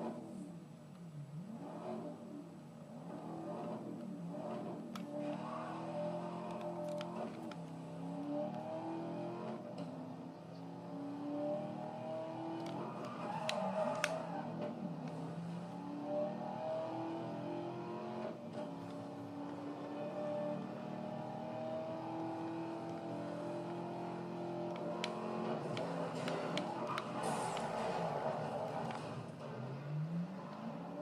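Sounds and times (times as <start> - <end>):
vehicle engine revving: 1.2 - 31.0.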